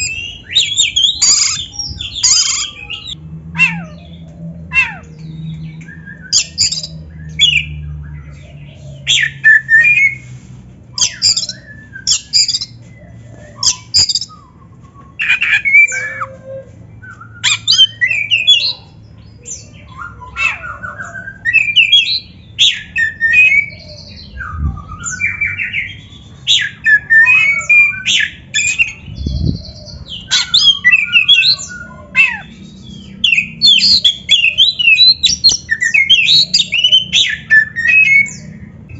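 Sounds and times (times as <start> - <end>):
bird singing varied song: 0.0 - 10.3, 10.9 - 38.9.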